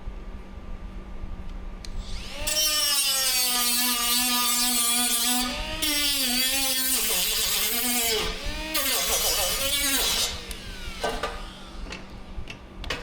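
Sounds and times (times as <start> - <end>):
power tool whining: 2.0 - 13.0.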